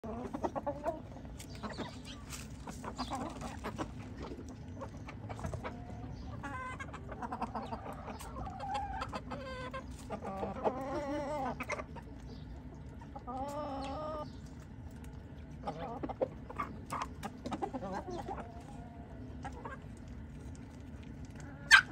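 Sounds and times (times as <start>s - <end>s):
beaks pecking corn: 0.0s - 21.9s
chickens clucking: 0.0s - 21.9s.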